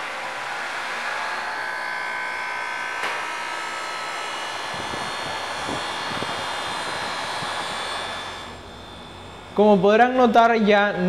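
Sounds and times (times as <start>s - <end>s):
air conditioner whirring: 0.0s - 11.0s.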